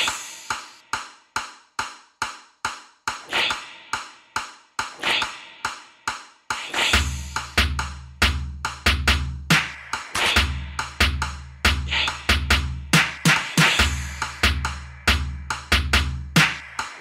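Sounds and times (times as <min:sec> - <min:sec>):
sharp hi-hat ticks: 0:00.0 - 0:17.0.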